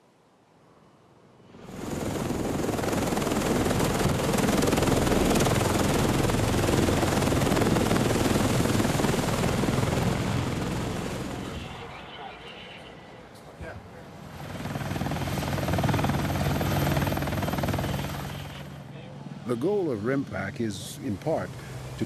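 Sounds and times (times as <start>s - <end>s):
aircraft roar: 1.5s - 22.0s.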